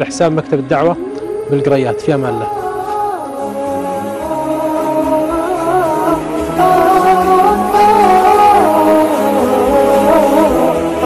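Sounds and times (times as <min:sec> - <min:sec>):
theme music with gliding melody: 0:00.0 - 0:11.0.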